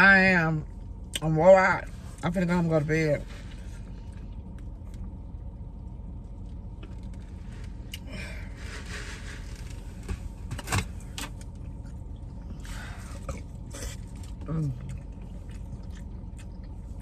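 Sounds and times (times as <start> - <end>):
car cabin low rumble: 0.0 - 17.0.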